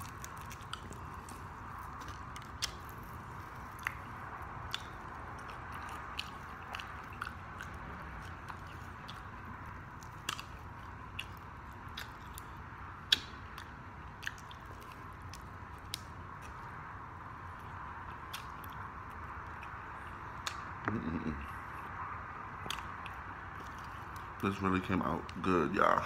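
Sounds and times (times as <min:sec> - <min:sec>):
wet mouth clicks and smacks: 0:00.0 - 0:16.7, 0:17.5 - 0:20.8, 0:22.6 - 0:24.4
close chewing of food: 0:00.0 - 0:20.8, 0:22.6 - 0:26.0.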